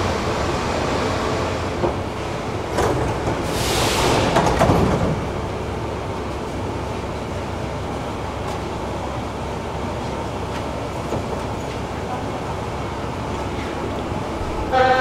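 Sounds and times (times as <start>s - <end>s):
metro car running rumble: 0.0s - 15.0s.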